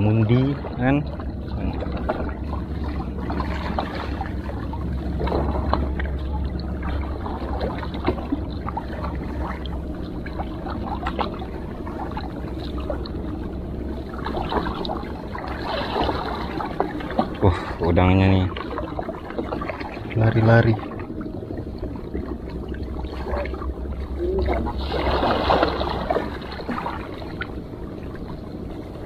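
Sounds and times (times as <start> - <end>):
sea water lapping: 0.0 - 29.0.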